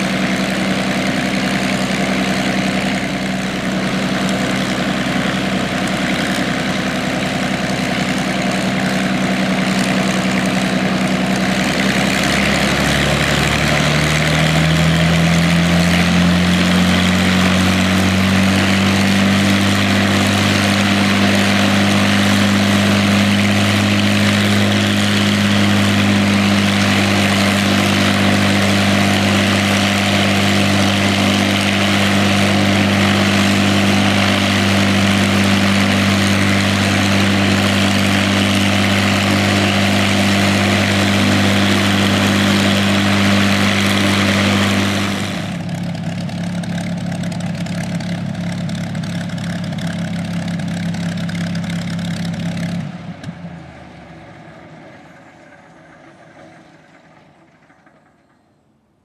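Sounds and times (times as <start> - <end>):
propeller aircraft engine running: 0.0 - 58.9.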